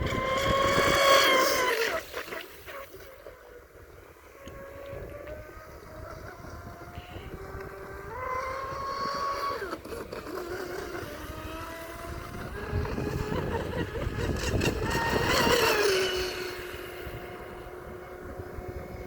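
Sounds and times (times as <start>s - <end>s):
electric motor whining: 0.0s - 2.1s, 4.3s - 19.0s
wind rumble: 0.0s - 2.1s, 3.8s - 19.0s.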